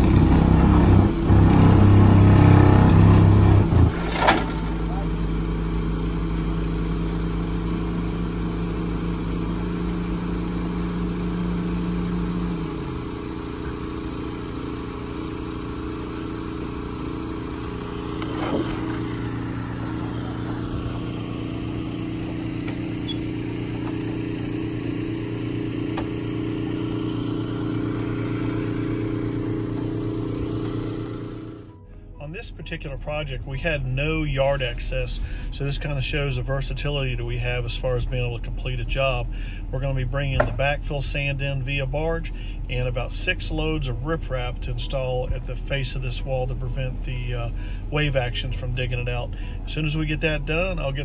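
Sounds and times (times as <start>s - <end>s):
excavator engine and hydraulics: 0.0s - 51.0s.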